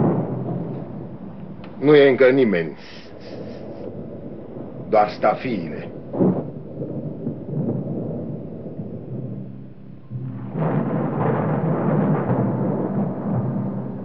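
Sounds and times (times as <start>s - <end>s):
deep rumble: 0.0s - 14.0s.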